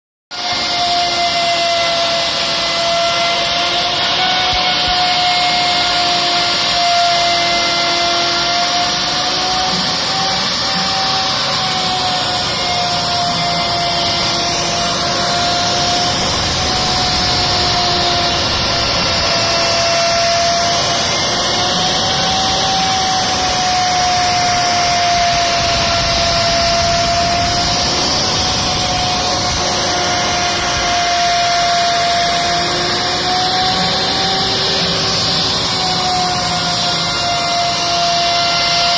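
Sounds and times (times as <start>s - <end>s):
router spindle whine: 0.3s - 38.9s.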